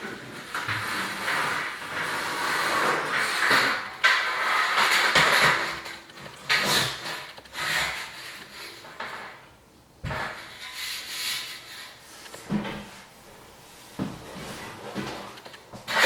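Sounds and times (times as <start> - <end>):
rubbing and scraping handling: 0.0 - 9.4, 10.1 - 16.0.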